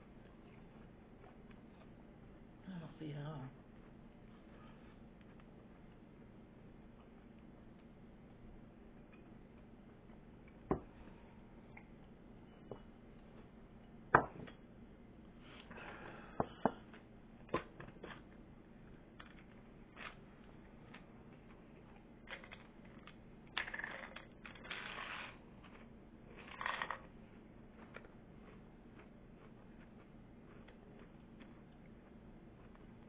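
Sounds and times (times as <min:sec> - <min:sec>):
cookies being bitten and chewed: 0:00.0 - 0:02.6, 0:03.6 - 0:13.9, 0:15.7 - 0:33.0.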